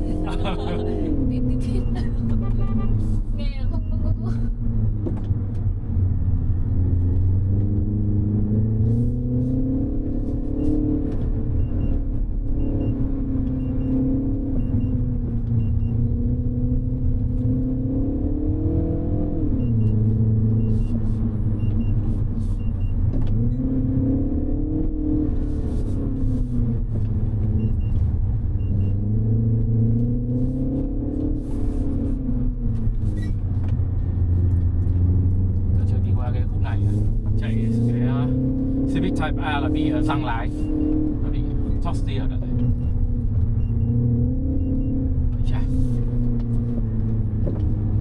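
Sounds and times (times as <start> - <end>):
car engine revving: 0.0 - 48.0
low road rumble: 0.0 - 48.0.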